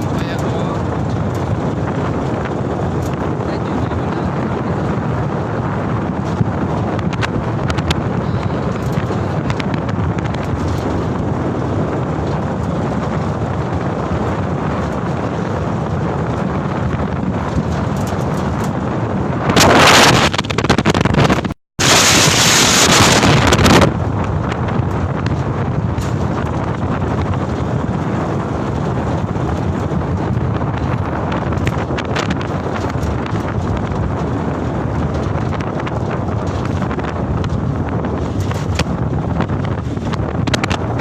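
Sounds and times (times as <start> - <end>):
loud rushing noise: 0.0 - 41.0
truck road and engine noise: 0.0 - 41.0
wind buffeting microphone: 0.0 - 41.0.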